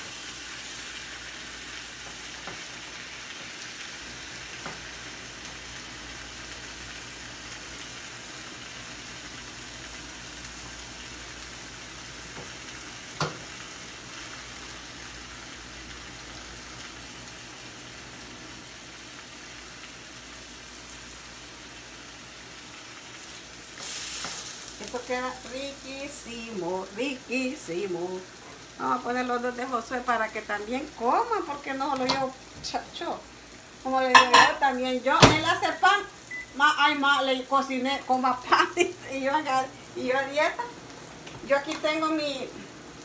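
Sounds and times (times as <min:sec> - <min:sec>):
food sizzling in a frying pan: 0:00.0 - 0:43.0.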